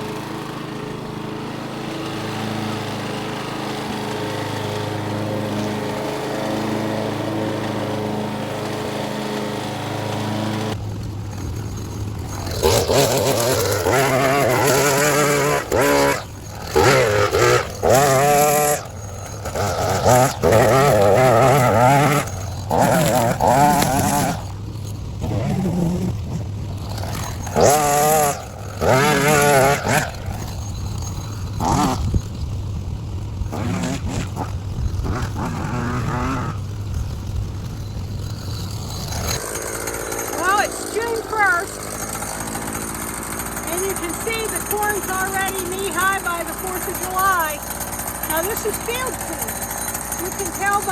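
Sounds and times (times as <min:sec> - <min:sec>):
power sander running: 0:00.0 - 0:50.9
string trimmer engine revving: 0:00.0 - 0:50.9.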